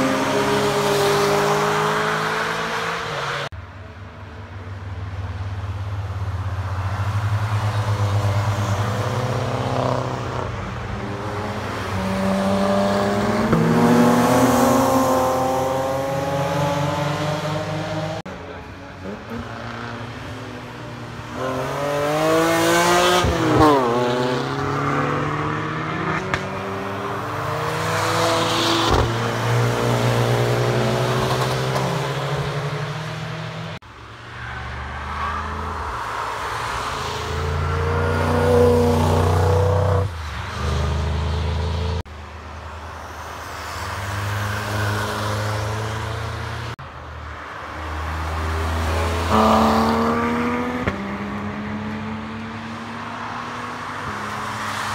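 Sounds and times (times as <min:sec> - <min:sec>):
racing cars passing at speed: 0:00.0 - 0:03.6, 0:04.5 - 0:54.9.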